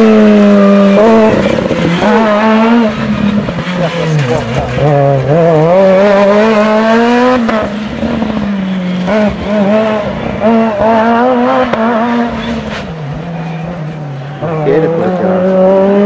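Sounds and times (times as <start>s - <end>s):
rally car engine revving past: 0.0s - 16.0s.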